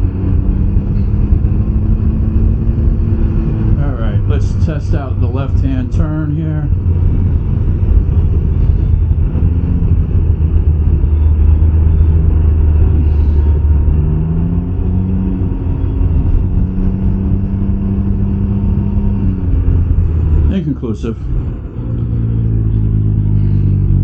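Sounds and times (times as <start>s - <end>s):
heavy low rumble: 0.0s - 24.0s
three-wheeler engine running: 0.0s - 24.0s.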